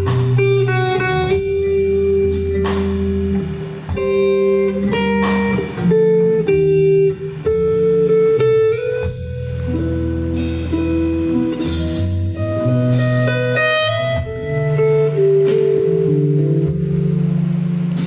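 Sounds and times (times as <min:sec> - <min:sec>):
electric bass guitar notes: 0:00.0 - 0:18.0
electric guitar melody and chords: 0:00.0 - 0:18.0.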